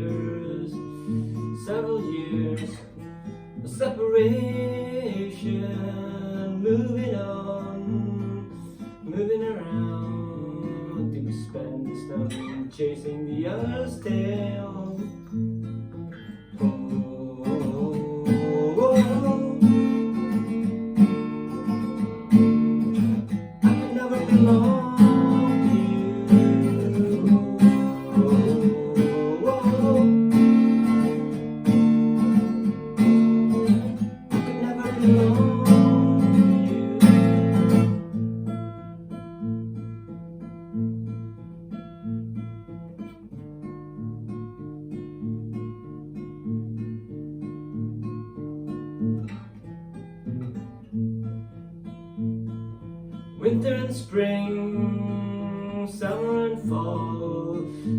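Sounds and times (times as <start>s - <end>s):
strummed acoustic guitar chords: 0.0s - 57.9s.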